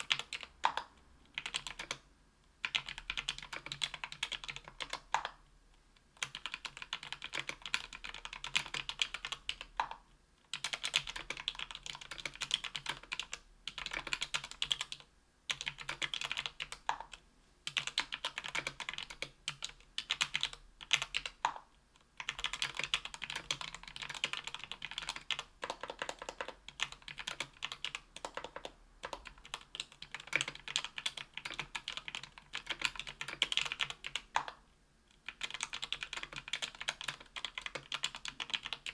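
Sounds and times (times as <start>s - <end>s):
mechanical keyboard typing: 0.0s - 2.0s, 2.6s - 5.4s, 6.2s - 34.6s, 35.2s - 38.9s.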